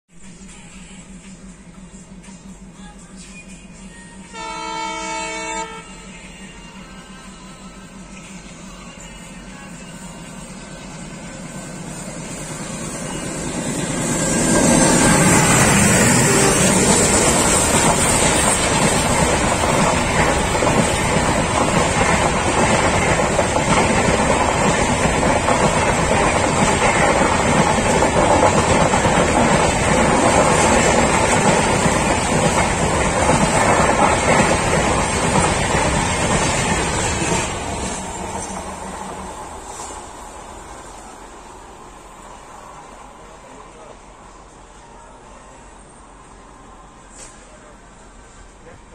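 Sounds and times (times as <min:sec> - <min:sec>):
passenger train passing: 0:00.1 - 0:48.9.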